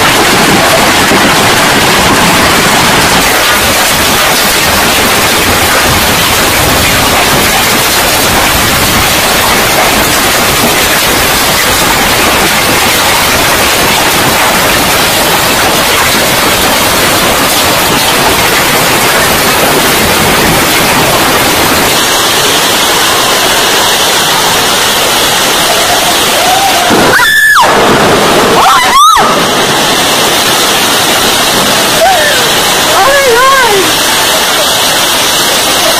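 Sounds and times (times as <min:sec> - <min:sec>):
heavy hail pelting: 0:00.0 - 0:35.9.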